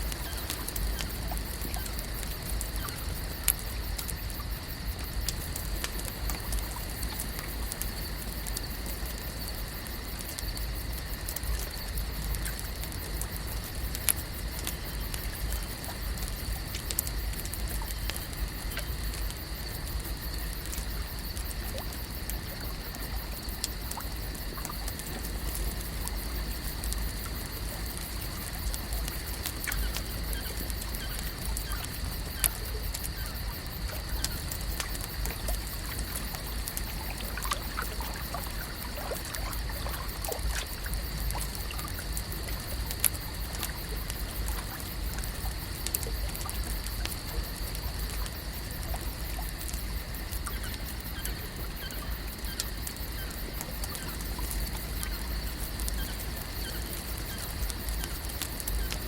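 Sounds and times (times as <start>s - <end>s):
water lapping and trickling: 0.0s - 59.0s.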